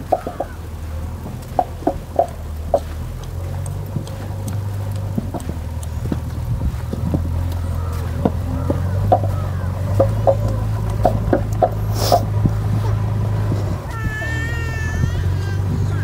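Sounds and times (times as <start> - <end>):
footsteps on dirt path: 0.0 - 16.0
steady low rumble: 0.0 - 16.0.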